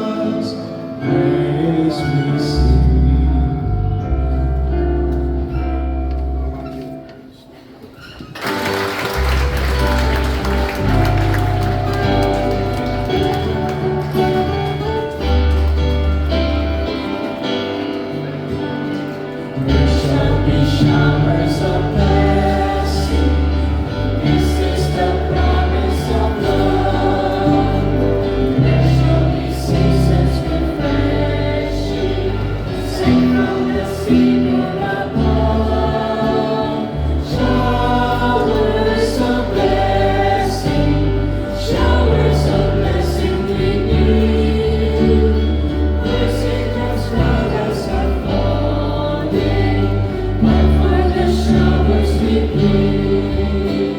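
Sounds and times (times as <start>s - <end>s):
choir singing a hymn: 0.0s - 5.6s, 8.8s - 53.9s.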